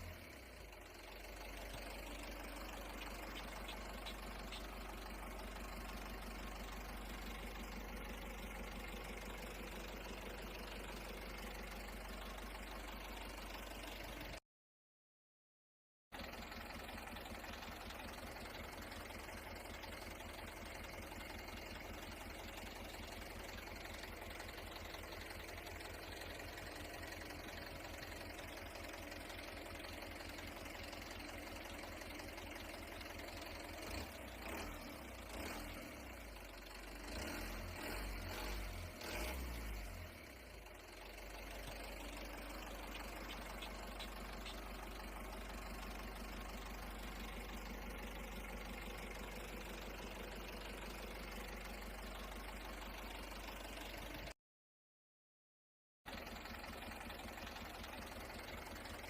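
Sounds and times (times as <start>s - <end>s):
truck engine idling: 0.0s - 14.4s, 16.2s - 54.4s, 56.1s - 59.0s.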